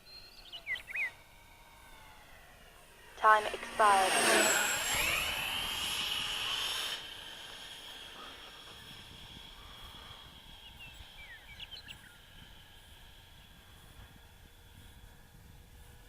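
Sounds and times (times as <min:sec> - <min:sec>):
model jet fan whine: 0:00.0 - 0:16.0.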